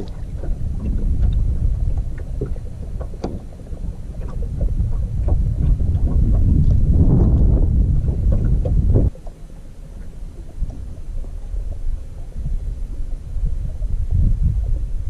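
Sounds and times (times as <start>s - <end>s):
wind buffeting microphone: 0.0s - 9.2s, 10.0s - 15.0s.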